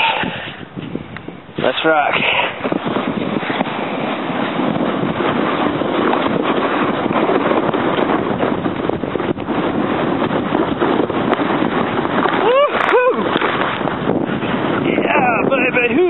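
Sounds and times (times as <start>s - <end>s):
wind noise on microphone: 0.0s - 16.0s
sled scraping over snow: 1.6s - 15.9s.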